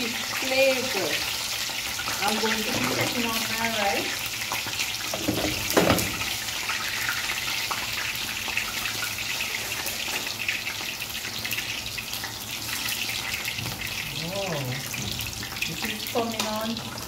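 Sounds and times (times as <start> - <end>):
oil sizzling and crackling: 0.0 - 17.0.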